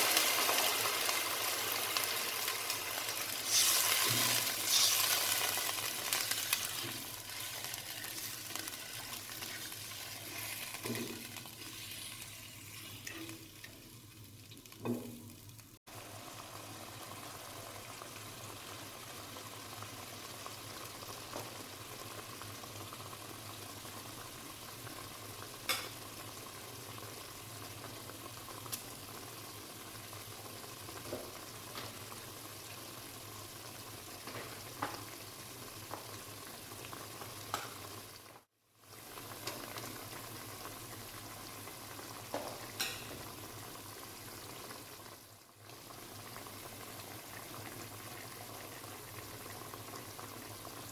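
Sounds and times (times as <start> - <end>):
food sizzling in oil: 0.0 - 50.9.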